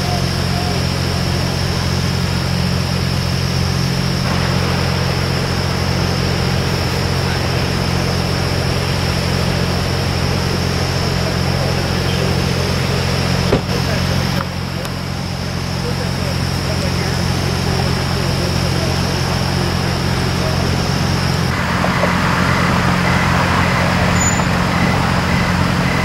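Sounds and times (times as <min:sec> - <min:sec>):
constant hiss: 0:00.0 - 0:25.9
engine idling: 0:00.0 - 0:26.0.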